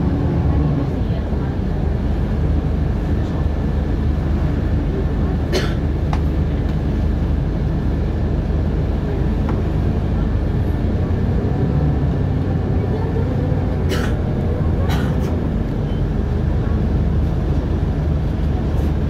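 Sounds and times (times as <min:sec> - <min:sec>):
bus engine and road drone: 0:00.0 - 0:19.0.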